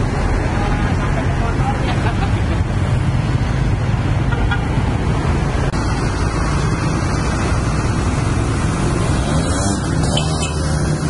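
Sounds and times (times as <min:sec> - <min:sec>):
low engine rumble: 0:00.0 - 0:09.2
motorcycles passing close: 0:00.0 - 0:11.0.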